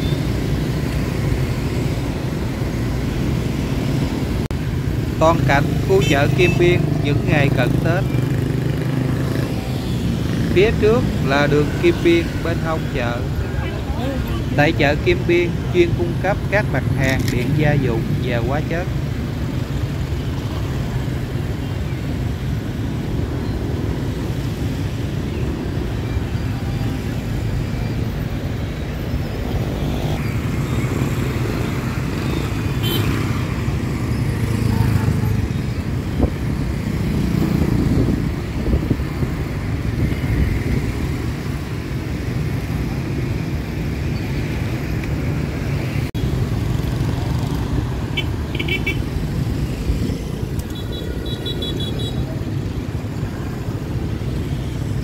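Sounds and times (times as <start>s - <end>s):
motorbikes passing by: 0.0s - 55.0s.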